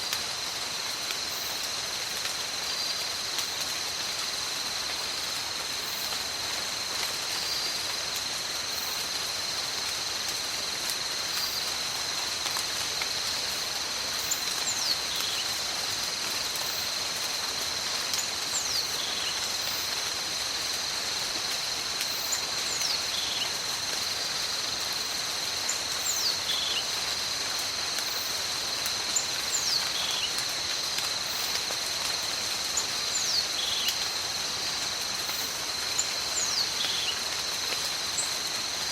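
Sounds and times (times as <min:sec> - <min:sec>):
high insect drone: 0:00.0 - 0:38.9
steady rain: 0:00.0 - 0:38.9.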